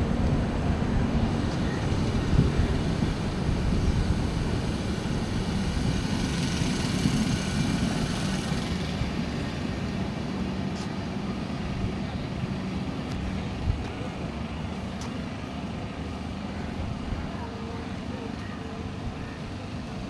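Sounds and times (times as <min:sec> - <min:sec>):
diesel generator drone: 0:00.0 - 0:20.0.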